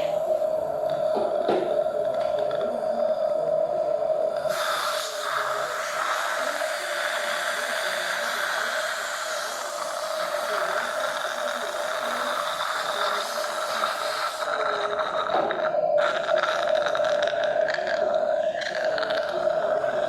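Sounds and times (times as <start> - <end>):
dental equipment hissing: 0.0 - 20.0
mid-pitched hum: 0.0 - 20.0.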